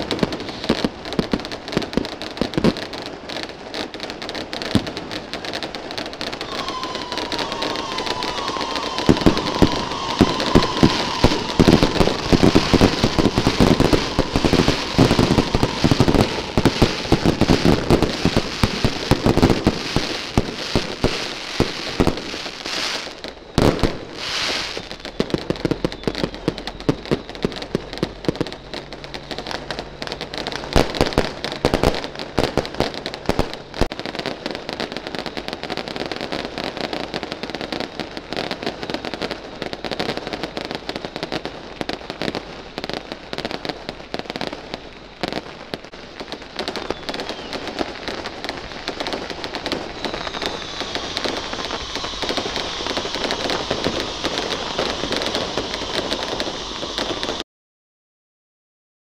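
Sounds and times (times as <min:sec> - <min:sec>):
fireworks bangs: 0:00.0 - 0:57.4
fireworks crackling: 0:00.0 - 0:57.4.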